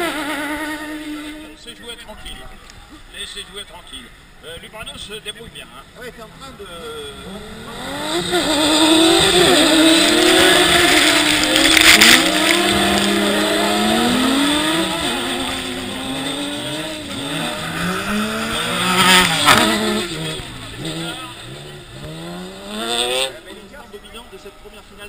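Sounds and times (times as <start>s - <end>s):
racing car engines revving: 0.0s - 2.1s, 5.2s - 25.0s.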